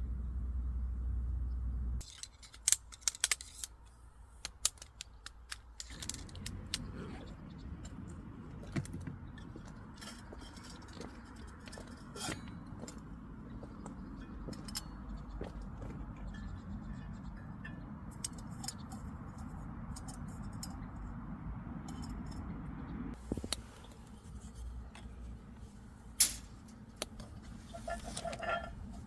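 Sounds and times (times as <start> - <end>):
low steady rumble: 0.0 - 2.1, 5.7 - 29.0.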